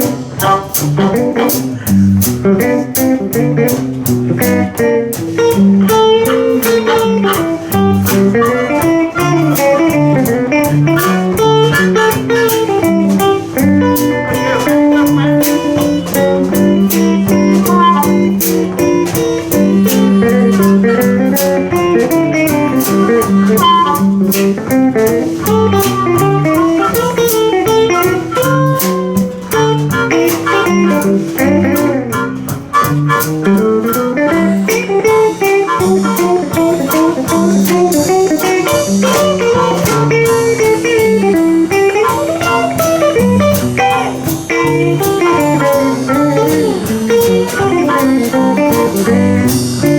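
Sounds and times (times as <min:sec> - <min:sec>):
drum kit beat: 0:00.0 - 0:49.9
lead guitar bending notes: 0:00.0 - 0:49.9
second guitar: 0:00.0 - 0:49.9.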